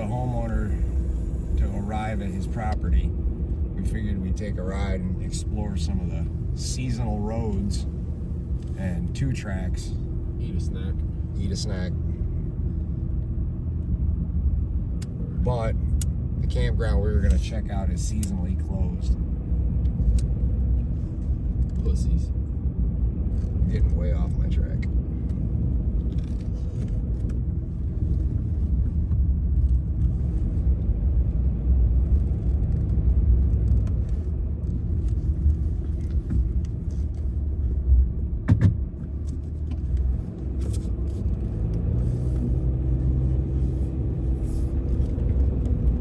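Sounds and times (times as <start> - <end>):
engine and road noise rumble: 0.0 - 46.0.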